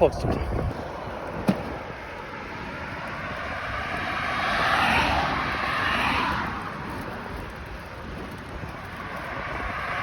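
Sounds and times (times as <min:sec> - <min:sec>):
vehicle passing on highway: 0:00.0 - 0:10.0.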